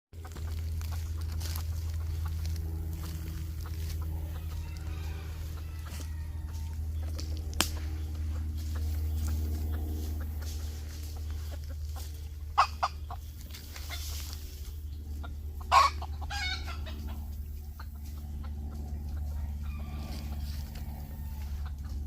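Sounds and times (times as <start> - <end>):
low hum: 0.2 - 22.0
rooster clucking: 0.2 - 22.0.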